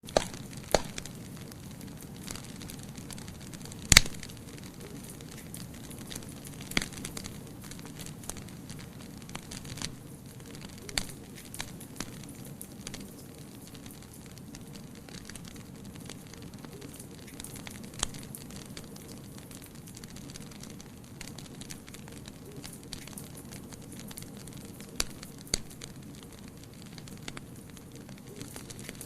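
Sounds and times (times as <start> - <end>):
fire crackles and pops: 0.0 - 29.0
low rush of flames: 0.0 - 29.0.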